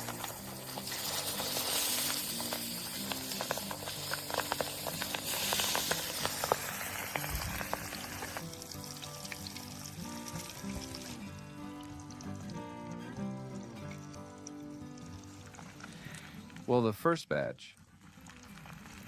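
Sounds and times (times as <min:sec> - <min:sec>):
fish sizzling in hot oil: 0:00.0 - 0:16.7, 0:17.8 - 0:19.0
background music: 0:00.0 - 0:19.0.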